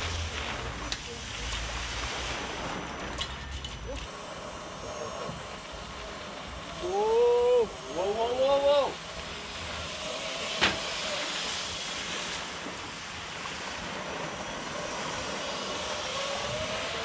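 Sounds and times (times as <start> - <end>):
wakeboard hissing across water: 0.0 - 17.0
wind: 0.0 - 17.0
faint thin whine: 0.1 - 17.0.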